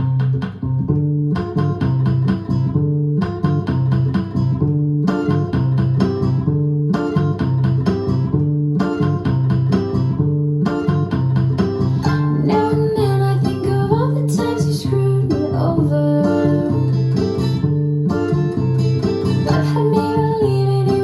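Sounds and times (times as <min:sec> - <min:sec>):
guitar music over loudspeakers: 0:00.0 - 0:21.0
plucked guitar figure: 0:00.0 - 0:21.0
steady bass notes: 0:00.0 - 0:21.0.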